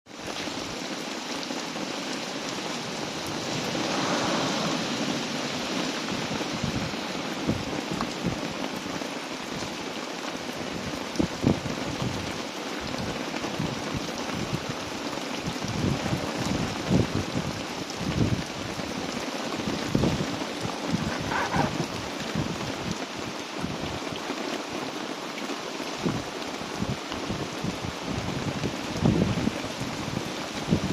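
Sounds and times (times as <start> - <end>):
heavy rain falling: 0.1 - 30.9.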